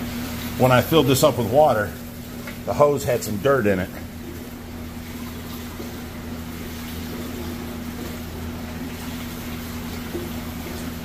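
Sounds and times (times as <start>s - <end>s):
aquarium pump humming: 0.0s - 11.0s.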